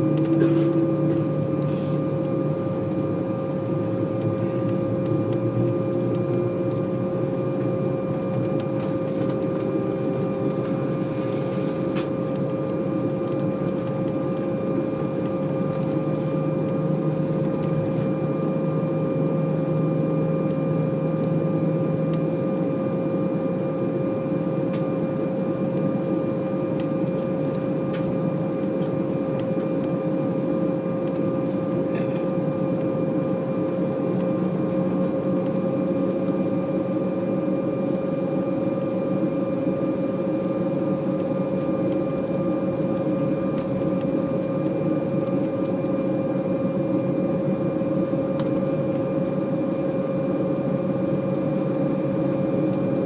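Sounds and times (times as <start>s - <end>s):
jet engines idling hum: 0.0s - 53.0s.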